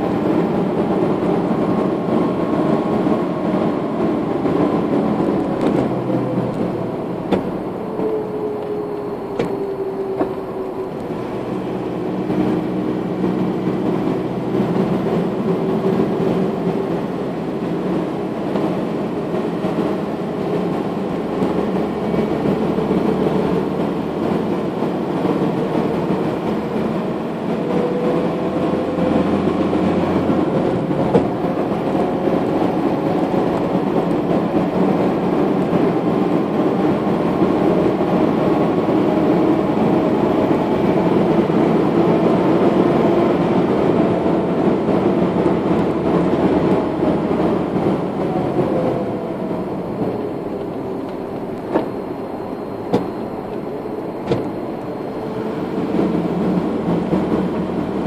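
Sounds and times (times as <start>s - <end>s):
car engine hum: 0.0s - 58.0s
tyre and road noise: 0.0s - 58.0s.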